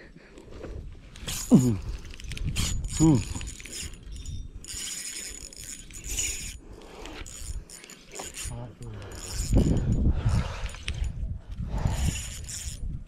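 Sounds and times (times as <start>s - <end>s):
fishing reel cranking: 1.2s - 13.0s.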